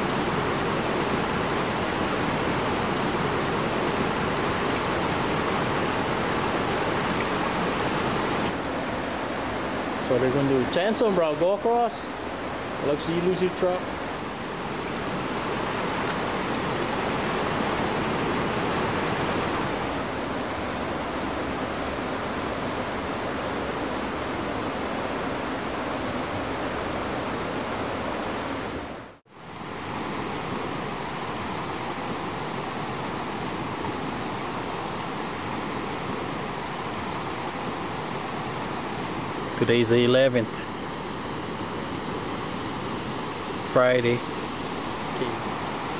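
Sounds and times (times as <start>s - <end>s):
floodwater rushing: 0.0s - 28.5s, 29.3s - 45.9s.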